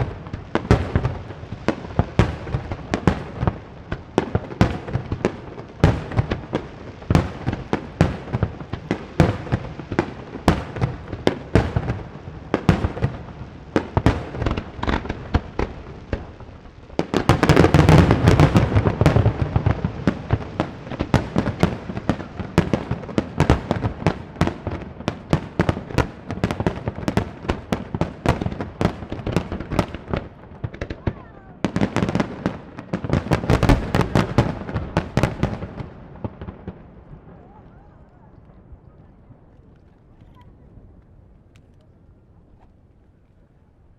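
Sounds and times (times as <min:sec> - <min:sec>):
fireworks bursting: 0:00.0 - 0:37.7.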